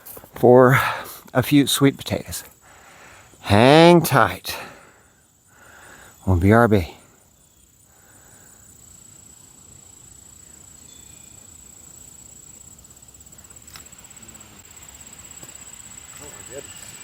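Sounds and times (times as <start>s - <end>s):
crickets trilling: 0.0s - 17.0s
faint outdoor background noise: 0.0s - 17.0s.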